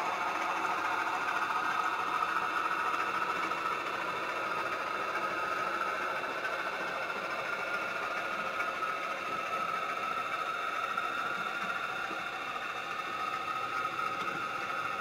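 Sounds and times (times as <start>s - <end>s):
model train wheels rattling: 0.0s - 15.0s.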